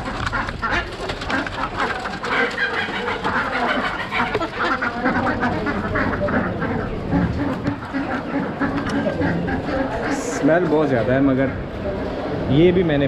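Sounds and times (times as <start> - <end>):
ducks quacking: 0.0 - 12.6
chickens clucking: 0.0 - 12.9.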